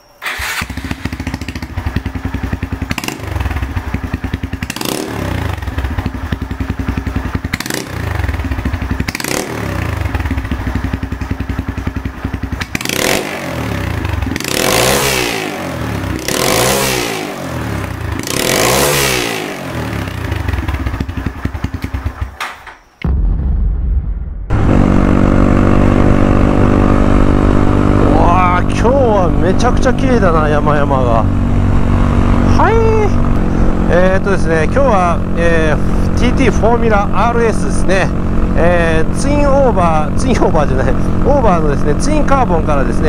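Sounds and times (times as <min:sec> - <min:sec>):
motorcycle engine idling and revving: 0:00.2 - 0:22.7, 0:24.5 - 0:43.0.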